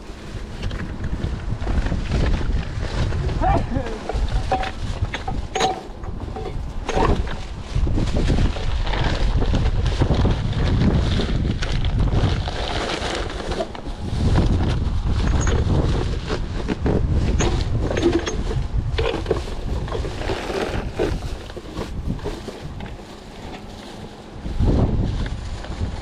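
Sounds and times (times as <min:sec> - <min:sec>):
plastic bags rustling: 0:00.0 - 0:26.0
wind buffeting microphone: 0:00.0 - 0:26.0.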